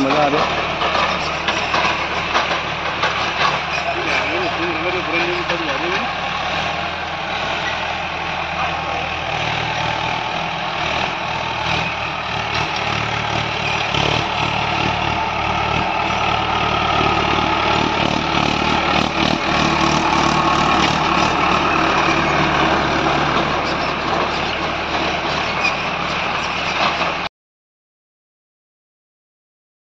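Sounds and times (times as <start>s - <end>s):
tractor diesel engine running: 0.0s - 27.3s.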